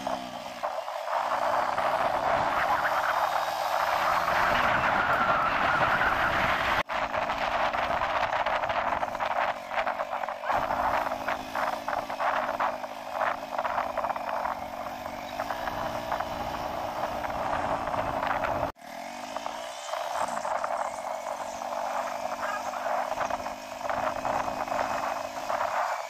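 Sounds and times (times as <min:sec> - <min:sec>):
motorbike engine running: 0:00.0 - 0:26.0
wind buffeting microphone: 0:00.1 - 0:18.8, 0:20.0 - 0:26.0.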